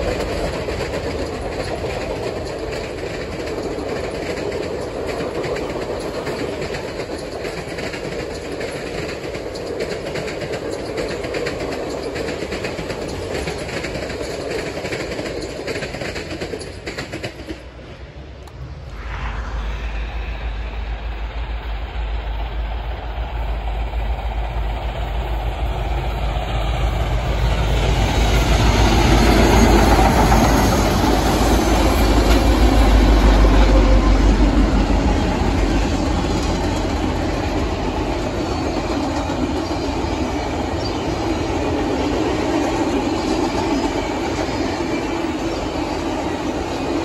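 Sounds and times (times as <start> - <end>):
train cars clattering on rails: 0.0 - 17.8, 23.2 - 47.0
steam locomotive passing: 0.0 - 47.0.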